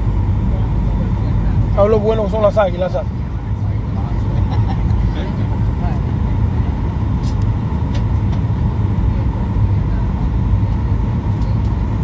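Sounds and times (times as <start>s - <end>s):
aircraft engine rumble: 0.0s - 12.0s
faint steady whine: 0.0s - 12.0s.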